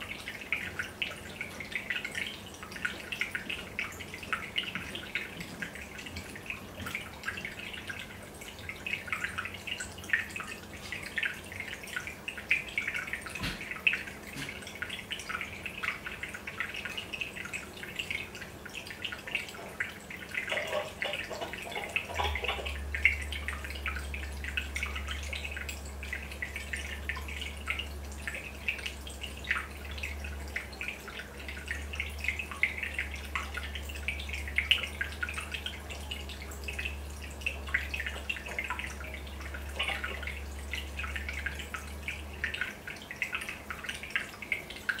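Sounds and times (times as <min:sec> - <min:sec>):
aquarium air bubbles popping: 0:00.0 - 0:45.0.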